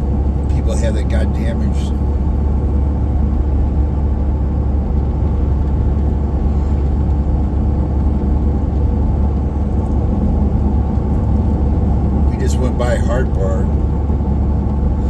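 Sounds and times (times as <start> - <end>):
truck road and engine rumble: 0.0 - 15.0.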